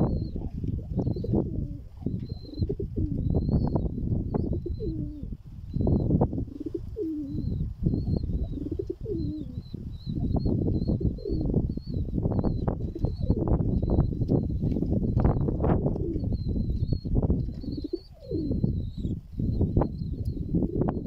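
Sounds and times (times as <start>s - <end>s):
pigeons cooing: 0.0s - 18.8s
small bird chirping: 0.0s - 21.0s.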